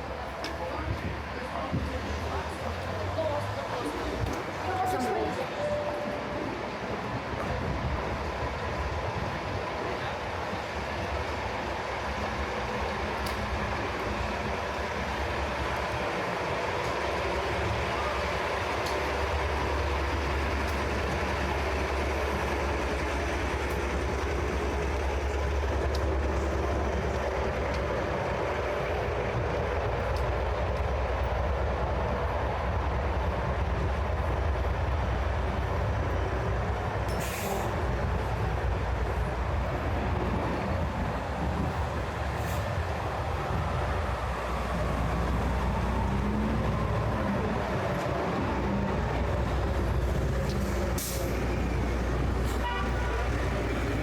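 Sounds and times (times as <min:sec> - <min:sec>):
city traffic hiss: 0:00.0 - 0:54.0
subway train low rumble: 0:00.0 - 0:54.0.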